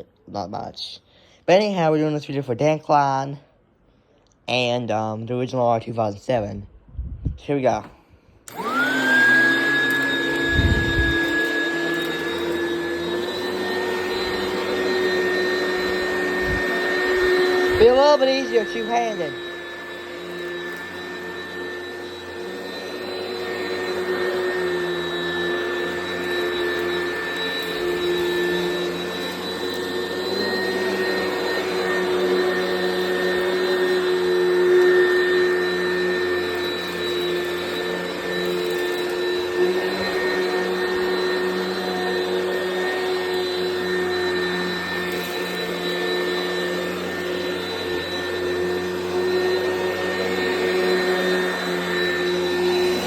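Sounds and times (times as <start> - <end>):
vacuum cleaner running: 7.6 - 53.0.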